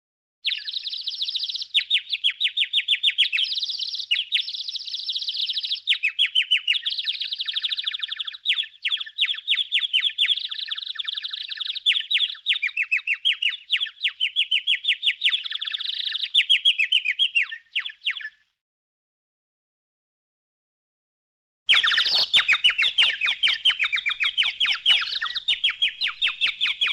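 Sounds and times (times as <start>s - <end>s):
songbird chirping and trilling: 0.4s - 18.6s, 21.7s - 26.9s.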